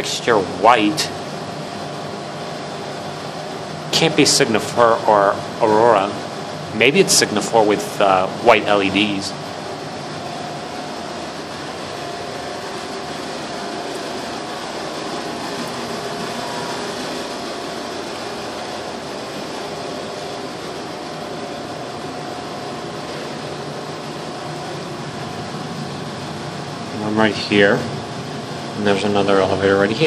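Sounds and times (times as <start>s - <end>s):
air-conditioning hiss: 0.0s - 30.0s.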